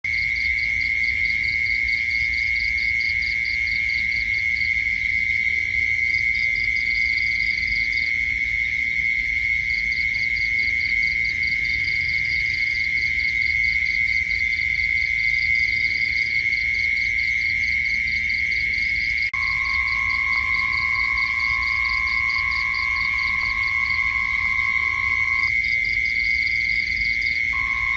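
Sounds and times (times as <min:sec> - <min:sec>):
insects droning: 0:00.1 - 0:27.9
low steady insect tone: 0:00.1 - 0:27.9
rapid pulsing insect chirp: 0:00.1 - 0:27.9.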